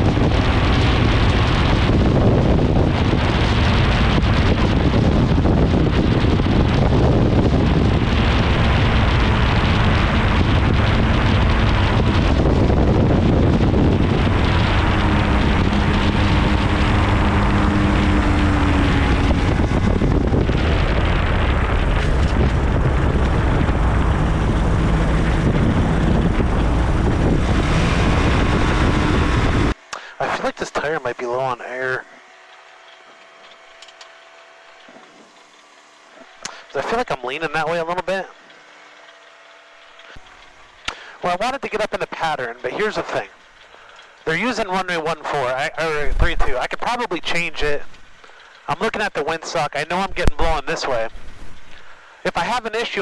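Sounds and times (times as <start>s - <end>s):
wind buffeting microphone: 0.0s - 49.1s
aircraft engine and propeller: 0.0s - 53.0s.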